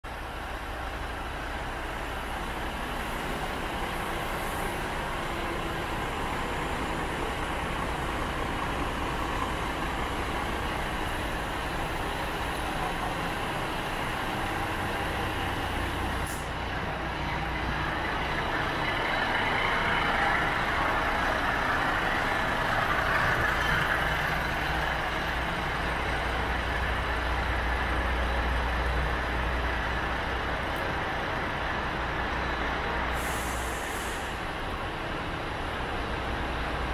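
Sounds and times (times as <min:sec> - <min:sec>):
diesel truck idling: 0:00.1 - 0:36.9.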